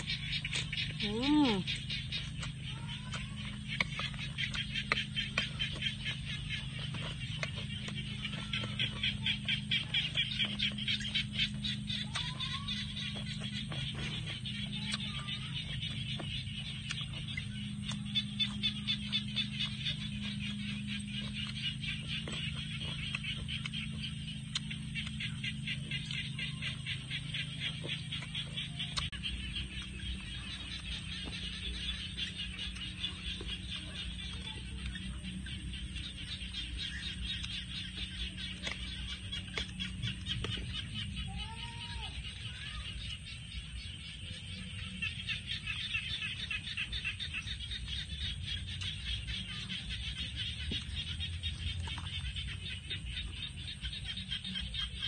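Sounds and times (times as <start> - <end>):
frogs calling: 0.0 - 55.0
low steady rumble: 0.0 - 55.0
steady low hum: 0.0 - 55.0.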